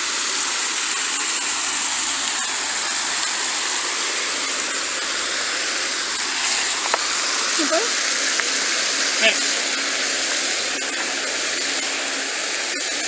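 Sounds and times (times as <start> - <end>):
fountain water splashing: 0.0 - 13.0
water cascading down stone wall: 0.0 - 13.0.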